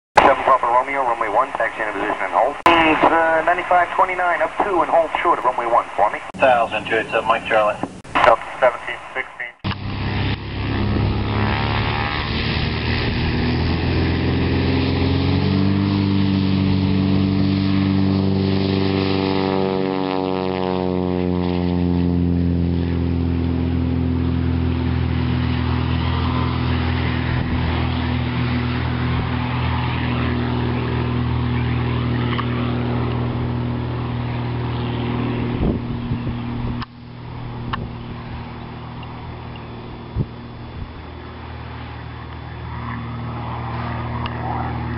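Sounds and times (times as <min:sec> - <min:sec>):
propeller aircraft engine drone: 0:00.2 - 0:44.9.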